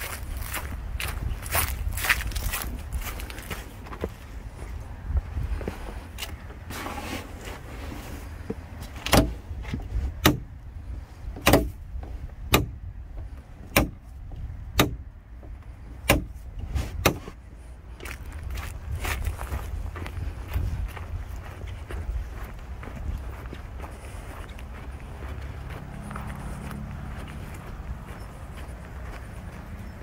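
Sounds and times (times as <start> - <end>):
footsteps on dirt path: 0.0 - 14.6, 15.3 - 30.0
wind rumble on microphone: 0.0 - 30.0.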